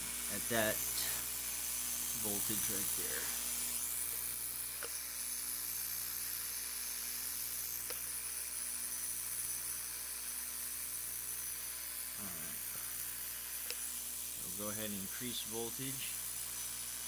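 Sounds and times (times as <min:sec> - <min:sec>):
electric motor humming and whirring: 0:00.0 - 0:17.0.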